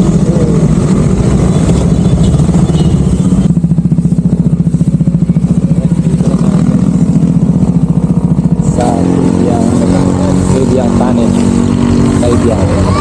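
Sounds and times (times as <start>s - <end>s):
vehicle engine pulsing: 0.0s - 13.0s.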